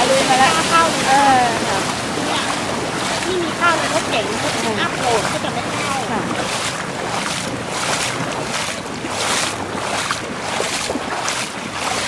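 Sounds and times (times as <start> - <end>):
footsteps wading through water: 0.0 - 12.0
wind noise on microphone: 0.0 - 12.0.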